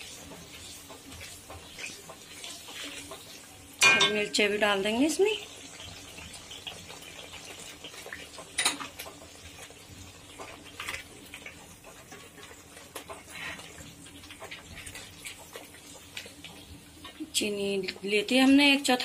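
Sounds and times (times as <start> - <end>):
faint sizzle: 0.0 - 19.0.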